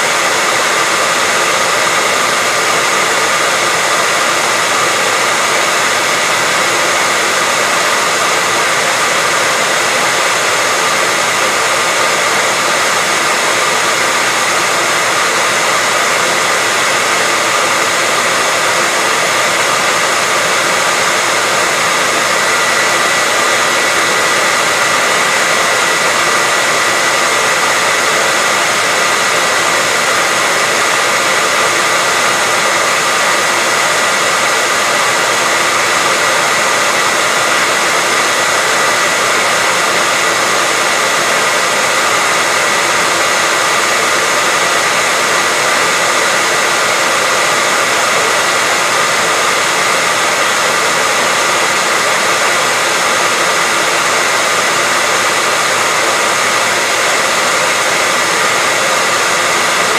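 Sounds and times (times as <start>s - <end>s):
hairdryer running: 0.0s - 59.9s.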